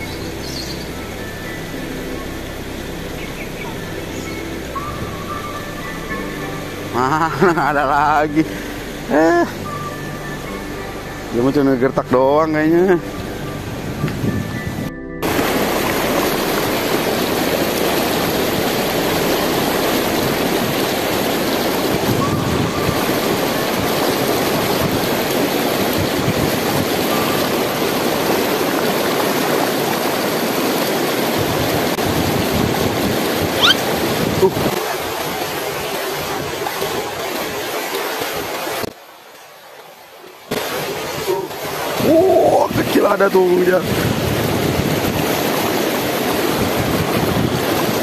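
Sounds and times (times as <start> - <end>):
river rapids rushing over boulders: 0.0 - 48.0.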